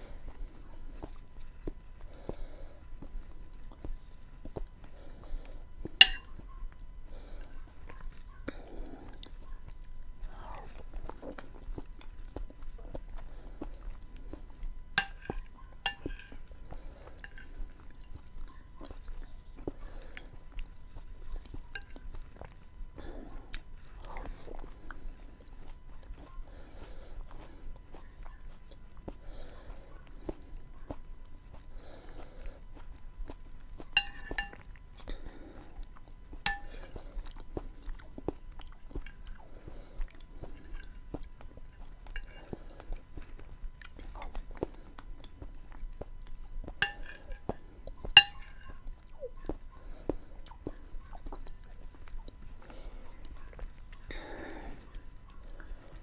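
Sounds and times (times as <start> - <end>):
person chewing and smacking: 0.0 - 56.0.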